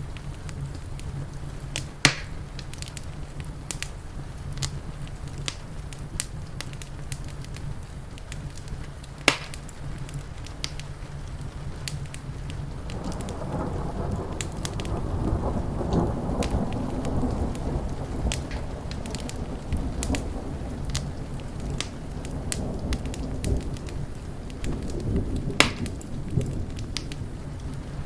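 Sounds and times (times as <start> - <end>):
steady rain: 0.0 - 28.0
thunder rumble: 0.0 - 28.0
wood fire crackling: 0.0 - 28.0.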